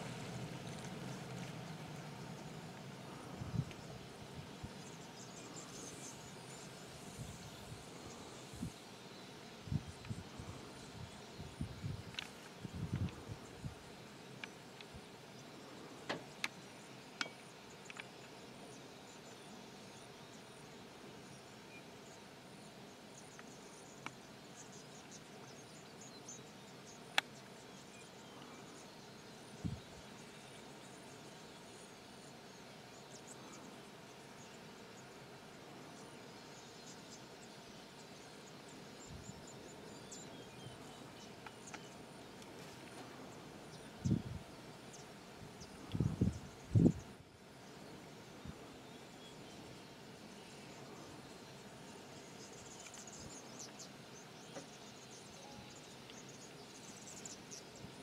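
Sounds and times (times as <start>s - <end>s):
insects chirping: 0.0s - 58.0s
steady hiss: 0.0s - 58.0s.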